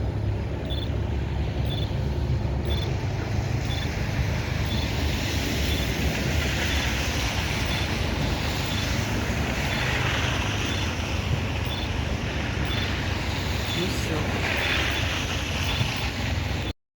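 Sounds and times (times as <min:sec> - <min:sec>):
train wheels rumbling: 0:00.0 - 0:16.7.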